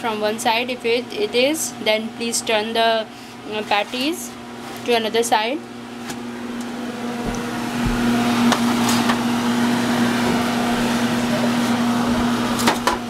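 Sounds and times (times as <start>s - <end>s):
electric hum: 0.0s - 13.0s.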